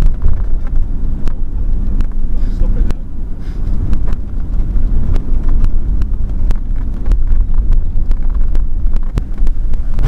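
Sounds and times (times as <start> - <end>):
engine and road rumble: 0.0 - 10.0
wind buffeting microphone: 0.0 - 10.0.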